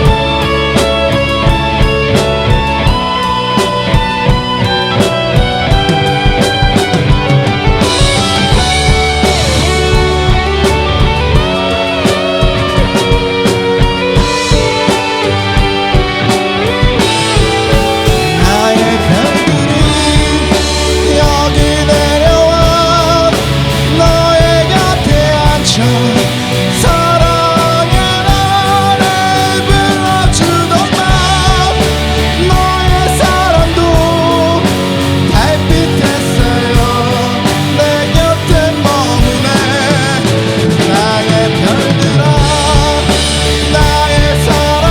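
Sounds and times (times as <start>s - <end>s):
rock band playing: 0.0s - 44.9s
wavering lead guitar: 0.0s - 44.9s.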